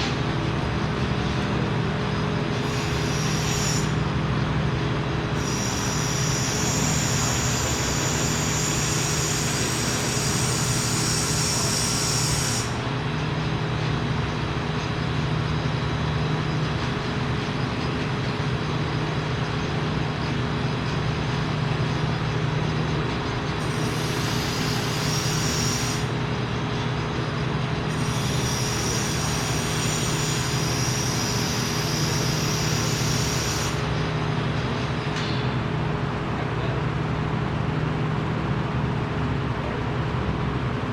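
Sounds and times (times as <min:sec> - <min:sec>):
machinery humming: 0:00.0 - 0:39.9.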